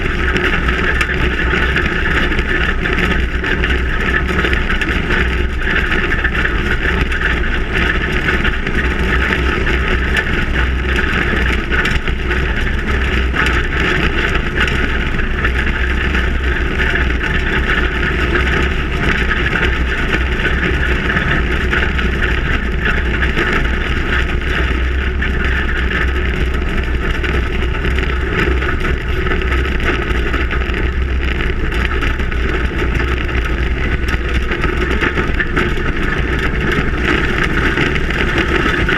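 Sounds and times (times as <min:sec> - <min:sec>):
truck engine: 0:00.0 - 0:38.9
wind noise: 0:00.0 - 0:38.9.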